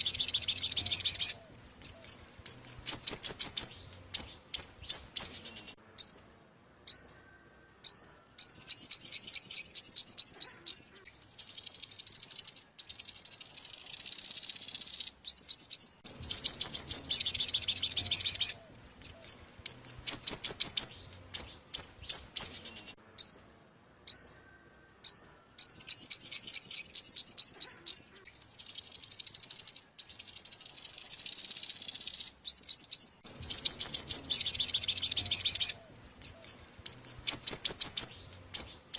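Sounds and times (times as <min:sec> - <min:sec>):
sunbird song: 0:00.0 - 0:38.9.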